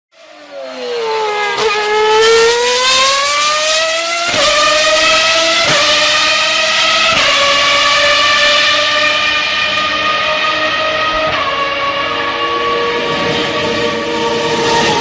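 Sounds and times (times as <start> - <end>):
racing car engine accelerating: 0.2 - 15.0.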